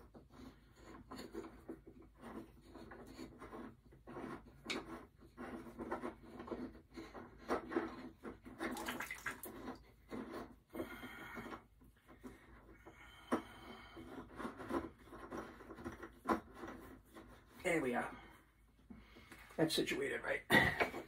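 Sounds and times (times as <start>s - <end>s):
pipe threads scraping: 0.0s - 20.2s.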